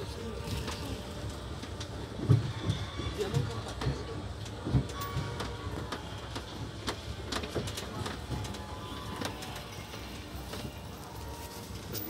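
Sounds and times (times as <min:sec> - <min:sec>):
faint music: 0:00.0 - 0:12.0
faint voices: 0:00.0 - 0:12.0
low rumble of road train: 0:00.0 - 0:12.0
clicks and rattles of carriage: 0:00.3 - 0:12.0.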